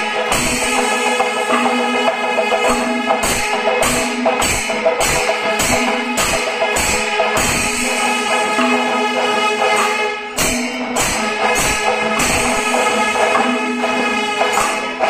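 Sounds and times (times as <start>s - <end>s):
barrel drums: 0.0s - 15.0s
hand cymbals ringing: 0.0s - 15.0s.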